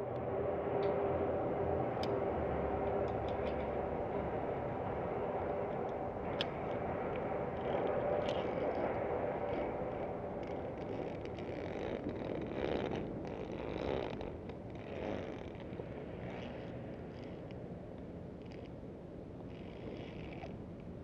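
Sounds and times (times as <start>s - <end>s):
indoor hall hum and rumble: 0.0s - 21.0s.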